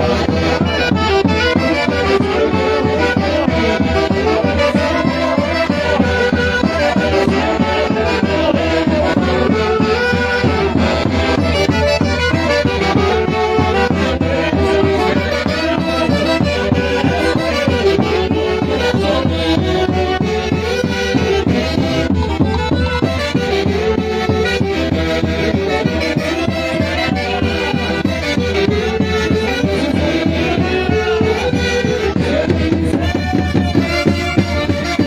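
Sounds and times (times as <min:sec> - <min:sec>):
steady drum beat: 0:00.0 - 0:34.8
wind instrument melody: 0:00.0 - 0:35.0.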